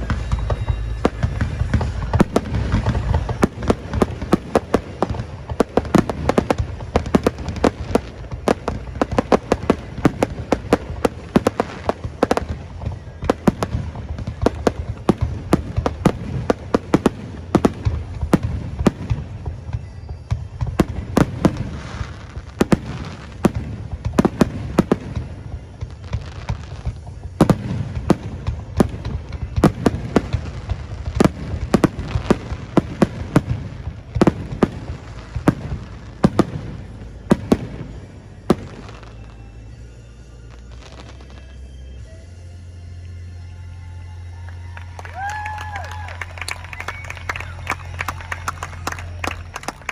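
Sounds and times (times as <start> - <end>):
fireworks banging: 0.0 - 41.7, 44.7 - 49.9.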